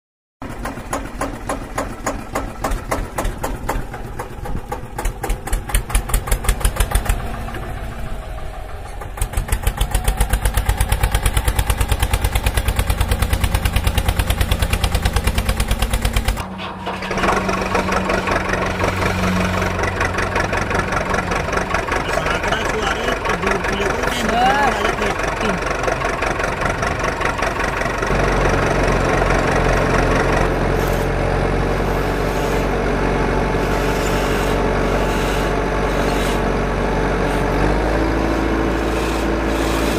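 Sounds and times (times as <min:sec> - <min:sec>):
tractor engine chugging: 0:00.4 - 0:39.9.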